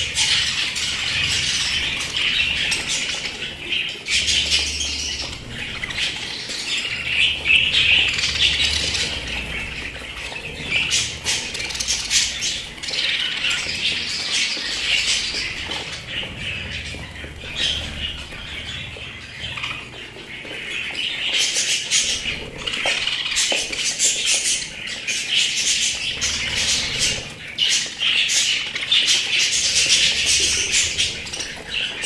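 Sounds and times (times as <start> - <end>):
budgerigars chattering: 0.0 - 32.0.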